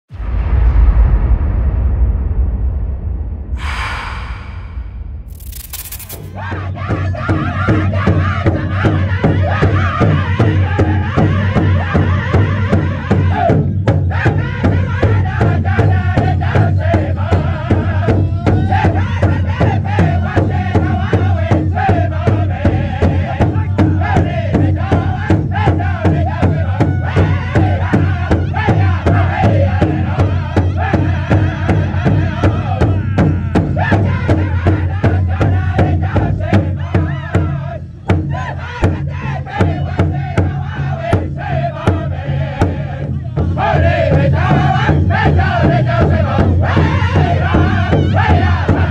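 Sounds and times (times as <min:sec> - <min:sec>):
group singing in unison: 0:06.2 - 0:48.9
large bass drum beating: 0:06.3 - 0:48.9.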